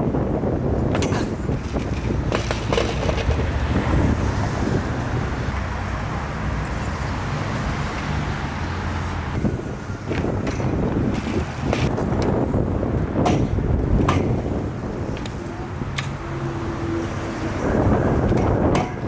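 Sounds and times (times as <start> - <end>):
road traffic rumble: 0.0 - 19.0
wind buffeting microphone: 0.0 - 19.0.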